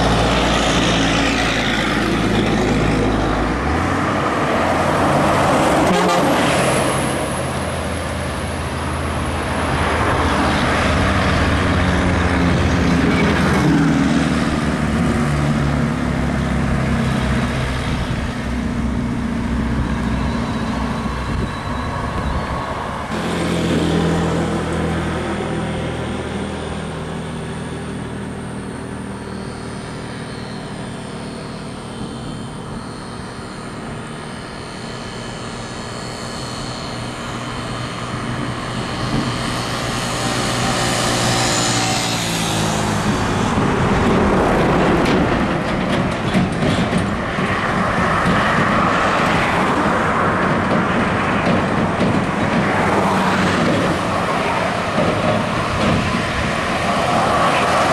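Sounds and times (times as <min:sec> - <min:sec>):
heavy vehicles driving past: 0:00.0 - 0:57.9.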